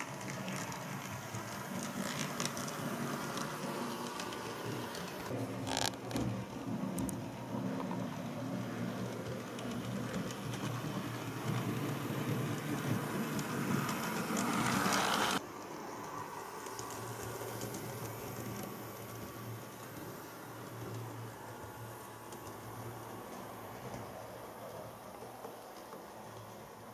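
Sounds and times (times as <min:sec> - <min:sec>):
model train motor hum: 0:00.0 - 0:26.8
wheels rumbling on rail: 0:00.0 - 0:26.9.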